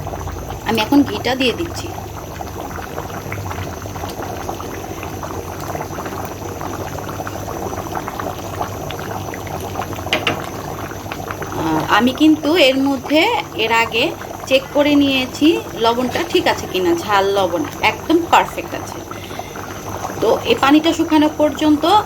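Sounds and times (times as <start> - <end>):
pot boiling and bubbling: 0.0 - 22.0.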